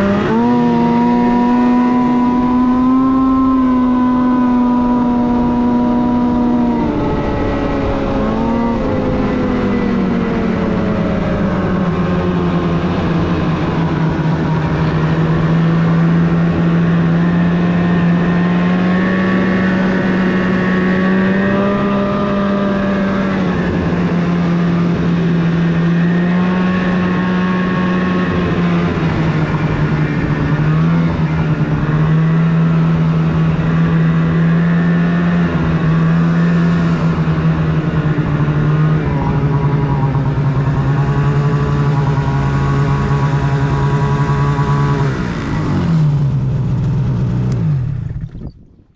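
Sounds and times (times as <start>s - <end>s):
snowmobile engine running: 0.0s - 48.6s.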